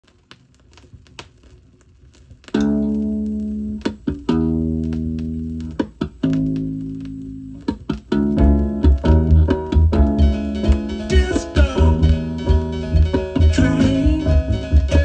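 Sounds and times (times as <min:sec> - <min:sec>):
vinyl record clicks: 0:00.0 - 0:15.0
held chords with bass: 0:02.6 - 0:15.0.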